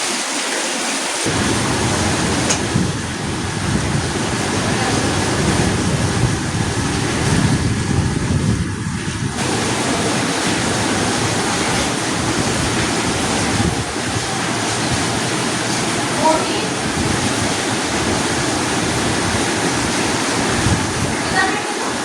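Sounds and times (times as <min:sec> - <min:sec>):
heavy rain pouring: 0:00.0 - 0:22.0
wind rumbling on microphone: 0:01.3 - 0:22.0.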